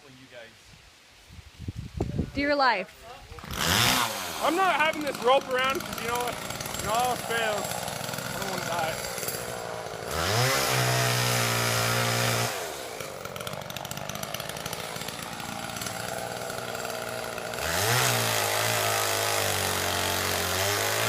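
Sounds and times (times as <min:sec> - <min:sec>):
chainsaw revving: 0:03.3 - 0:21.0.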